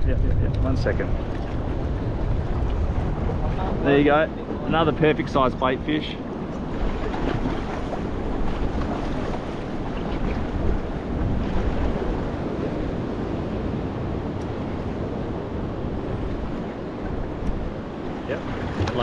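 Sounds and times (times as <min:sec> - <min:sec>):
choppy sea water washing: 0:00.0 - 0:19.0
wind buffeting microphone: 0:00.0 - 0:19.0.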